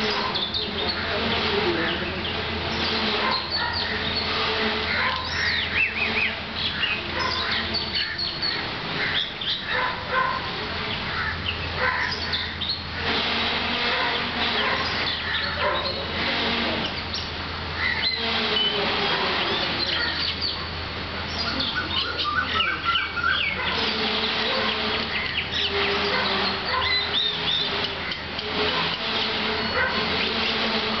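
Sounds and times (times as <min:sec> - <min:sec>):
birds chirping and calling: 0:00.0 - 0:31.0
steady low hum: 0:00.0 - 0:31.0.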